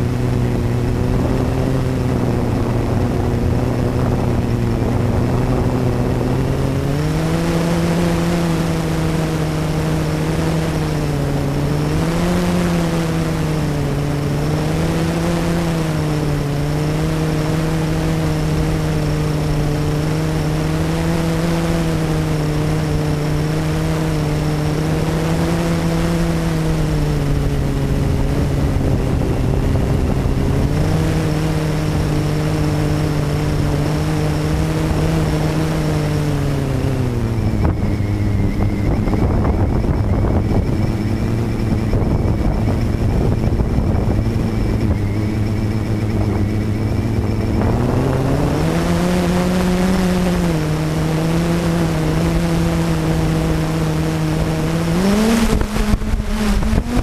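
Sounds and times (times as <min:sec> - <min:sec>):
quadcopter propellers buzzing: 0:00.0 - 0:57.0.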